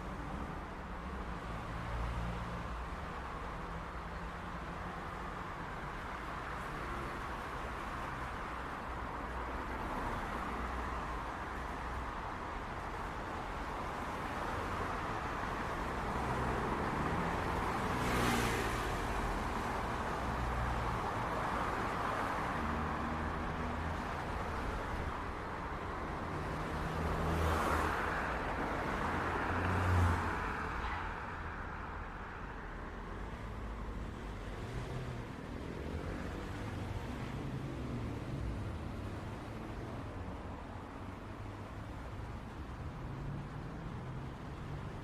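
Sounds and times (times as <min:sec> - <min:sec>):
city traffic: 0:00.0 - 0:45.0
vehicles passing: 0:00.0 - 0:45.0.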